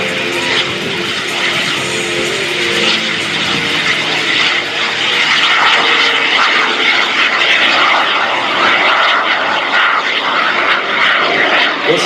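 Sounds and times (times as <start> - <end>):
small jet engine rushing hiss: 0.0 - 12.0.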